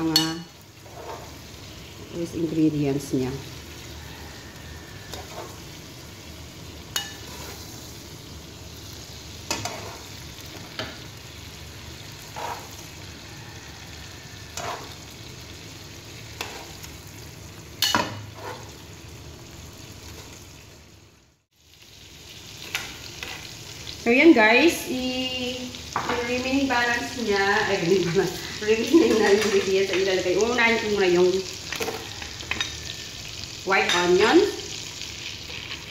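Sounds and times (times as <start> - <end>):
shrimp sizzling in a wok: 0.0 - 35.9.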